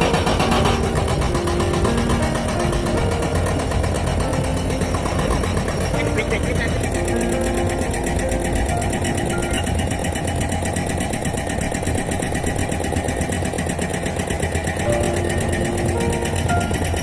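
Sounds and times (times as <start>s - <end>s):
diesel engine running: 0.0s - 17.0s
hydraulic rock breaker hammering: 0.0s - 17.0s.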